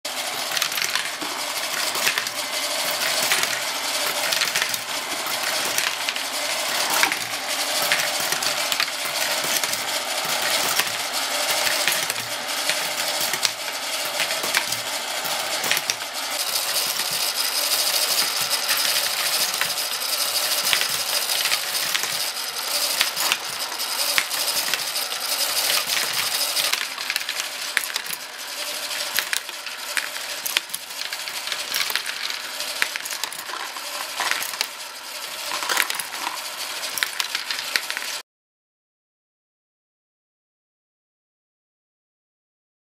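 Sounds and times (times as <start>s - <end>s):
plastic balls and parts clattering: 0.1s - 38.2s.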